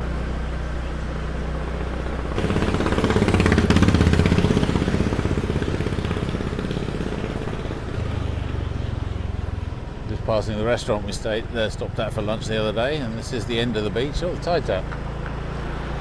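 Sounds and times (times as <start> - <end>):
rapidly pulsing engine passing: 0.0 - 16.0
scooter engine humming: 0.0 - 16.0.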